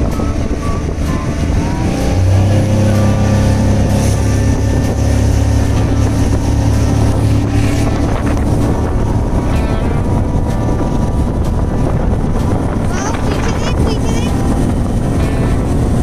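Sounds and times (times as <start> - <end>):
outboard motor droning: 0.0 - 16.0
water rushing past hull: 0.0 - 16.0.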